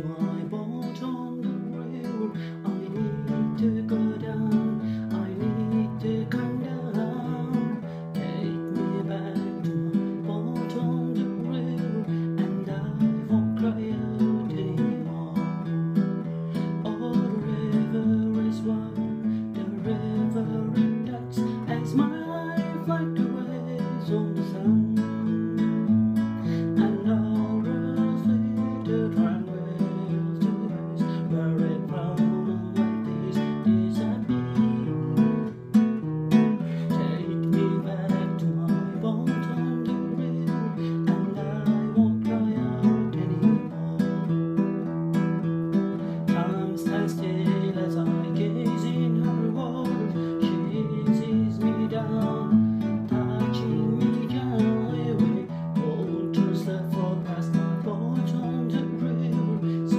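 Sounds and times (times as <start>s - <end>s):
man singing: 0.0s - 35.6s, 36.3s - 59.9s
strummed acoustic guitar: 0.0s - 59.9s.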